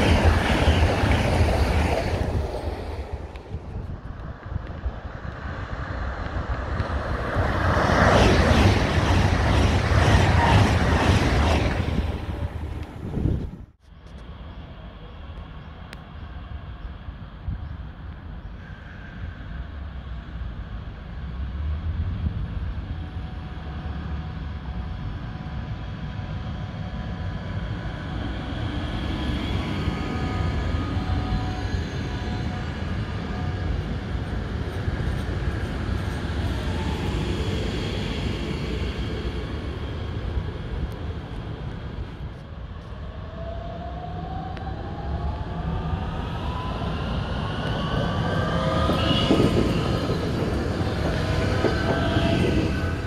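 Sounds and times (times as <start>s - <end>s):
faint steady train whine: 0.0s - 53.0s
rising whine of approaching train: 0.0s - 53.0s
train wheels rumbling on rails: 0.0s - 53.0s.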